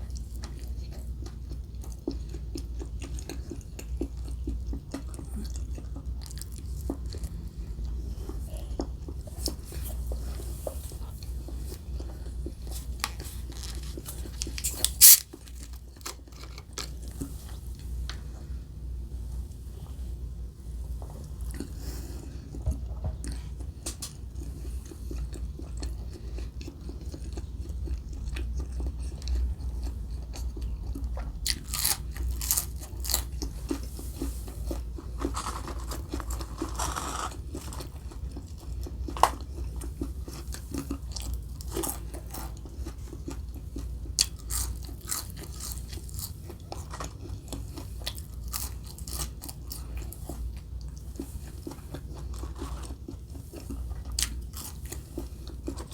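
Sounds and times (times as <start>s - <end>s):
person chewing food: 0.0s - 18.6s, 21.0s - 55.9s.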